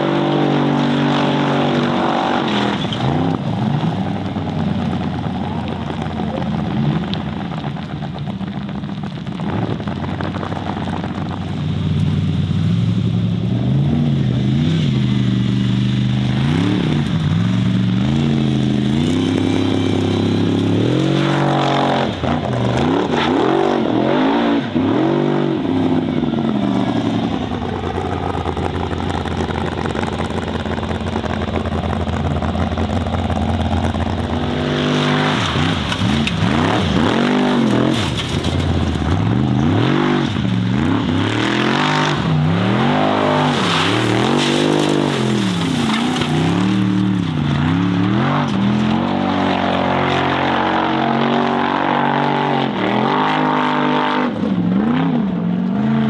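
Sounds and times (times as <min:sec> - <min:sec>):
buggy engine revving hard: 0:00.0 - 0:05.2, 0:12.5 - 0:56.0.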